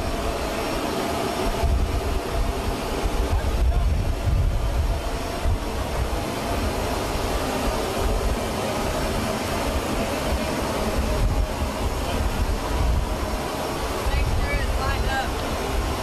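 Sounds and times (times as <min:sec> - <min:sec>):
even hiss: 0:00.0 - 0:16.0.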